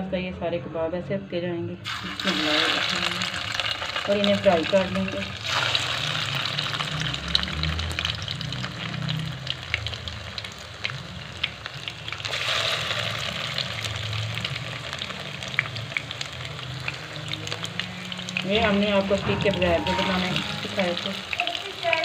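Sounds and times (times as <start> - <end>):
kebabs sizzling in a pan: 1.8 - 22.0.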